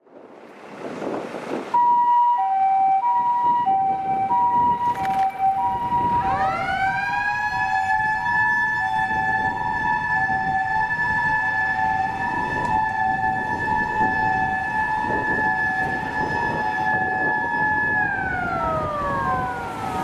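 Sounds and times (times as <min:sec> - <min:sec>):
mechanical motor siren wailing: 0:01.8 - 0:20.0
two-tone electronic siren: 0:01.8 - 0:20.0.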